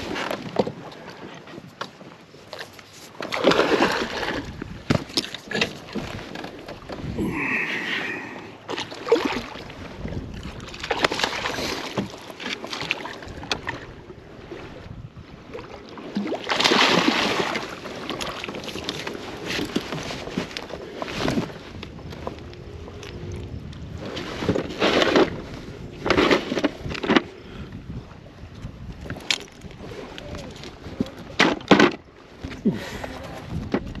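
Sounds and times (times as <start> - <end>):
water splashing around kayak: 0.0 - 34.0.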